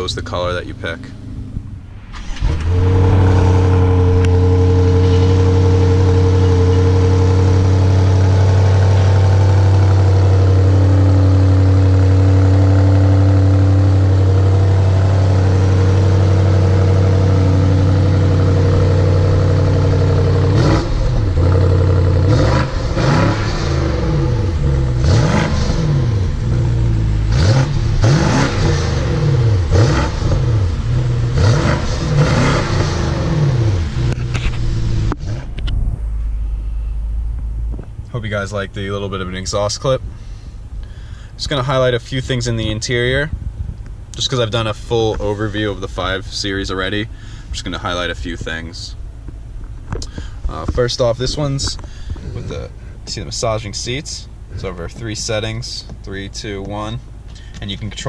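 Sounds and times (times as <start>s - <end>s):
car engine idling and revving: 0.0s - 58.0s
exhaust cracks: 0.0s - 58.0s.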